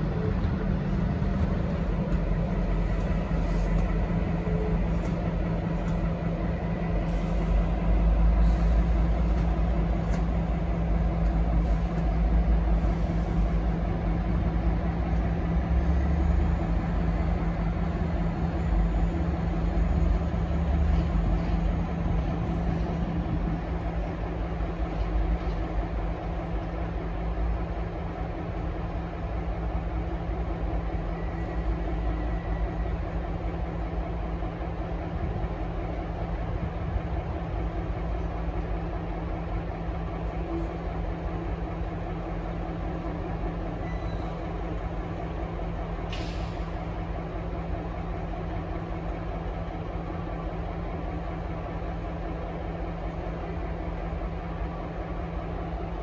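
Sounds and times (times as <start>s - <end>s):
diesel locomotive engines rumbling: 0.0s - 56.0s
engine hum: 0.0s - 56.0s.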